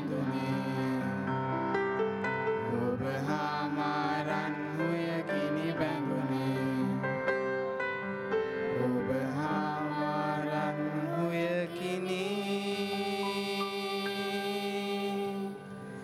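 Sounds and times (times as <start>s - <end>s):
boy singing into a microphone: 0.0s - 1.3s, 2.6s - 7.1s, 8.7s - 16.0s
piano accompaniment: 0.0s - 16.0s.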